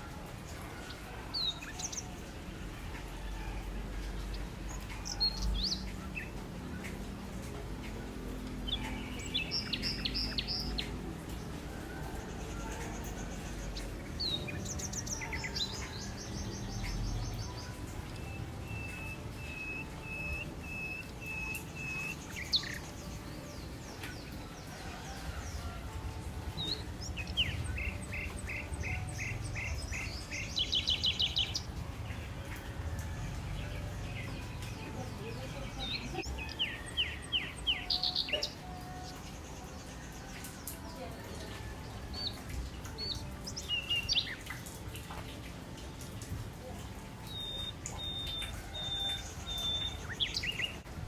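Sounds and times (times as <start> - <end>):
songbirds singing: 0.0 - 51.0.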